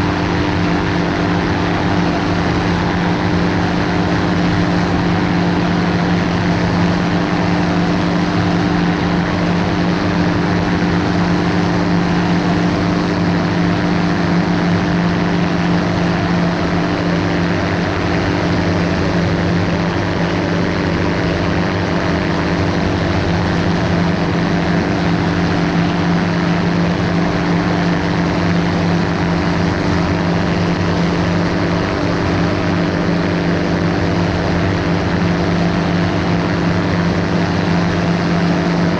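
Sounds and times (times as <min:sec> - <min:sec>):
light aircraft engine drone: 0:00.0 - 0:38.9
wide rushing noise: 0:00.0 - 0:38.9.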